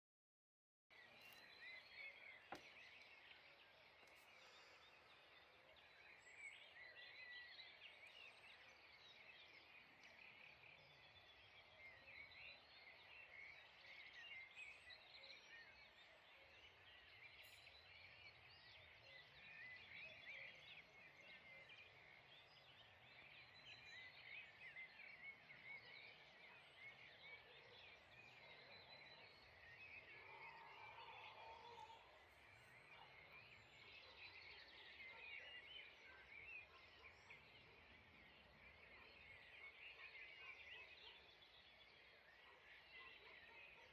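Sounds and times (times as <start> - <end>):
songbirds singing and chirping: 0.9 - 43.9.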